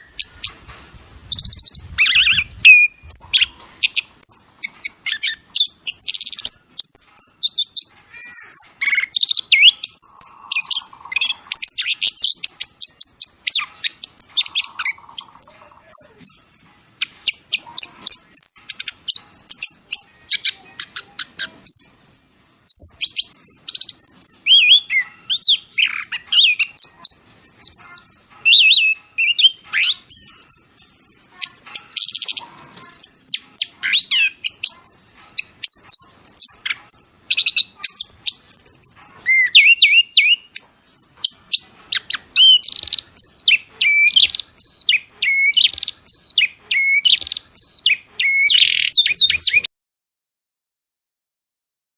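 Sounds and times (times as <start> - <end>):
songbird chirping and trilling: 0.0 - 49.7.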